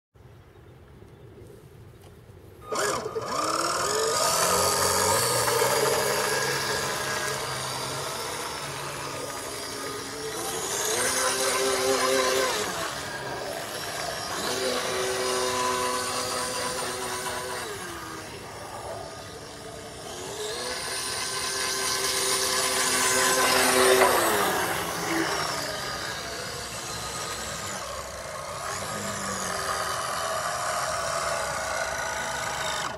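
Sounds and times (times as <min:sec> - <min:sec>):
model boat motor revving: 0:02.6 - 0:32.9.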